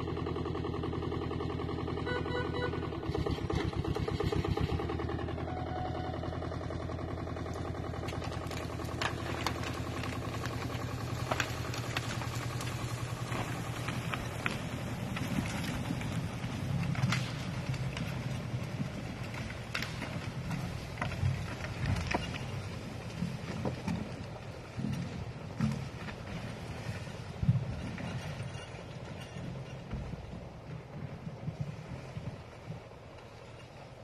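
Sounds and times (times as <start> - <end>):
cable crane engine running: 0.0 - 34.0.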